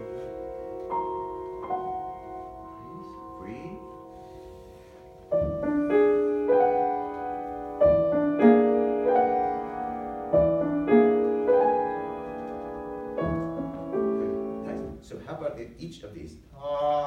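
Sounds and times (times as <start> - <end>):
acoustic piano playing: 0.0 - 15.8.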